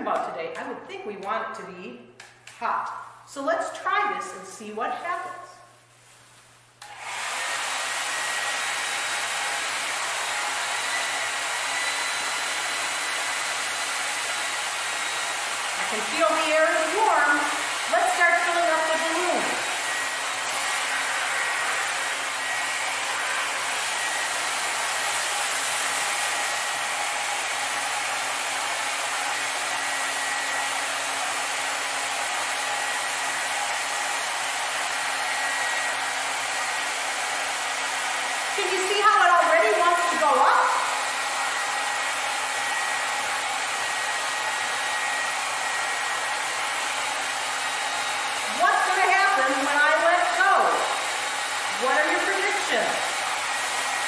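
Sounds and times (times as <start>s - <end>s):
hair dryer blowing: 6.8s - 54.0s.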